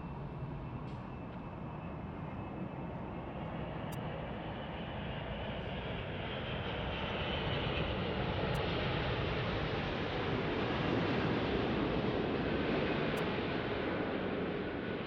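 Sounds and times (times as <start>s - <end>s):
airliner jet rumble and hiss: 0.0s - 15.0s.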